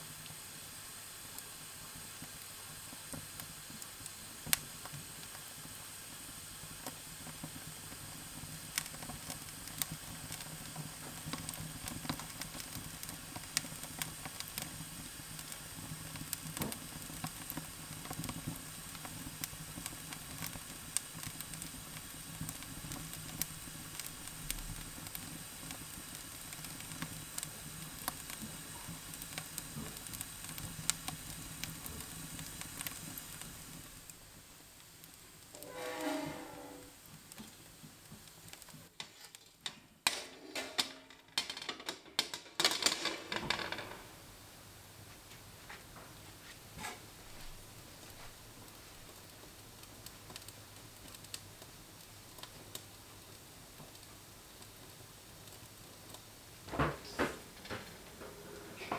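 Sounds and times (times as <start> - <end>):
wood fire crackling and popping: 0.0 - 35.7, 36.9 - 58.9
fire hissing: 0.0 - 39.4, 44.1 - 58.9.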